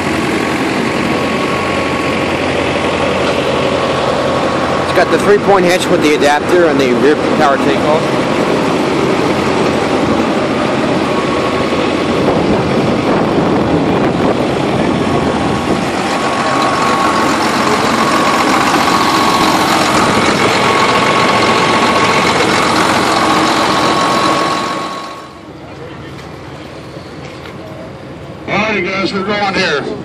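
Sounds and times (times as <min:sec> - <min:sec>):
tractor engine running: 0:00.0 - 0:29.5.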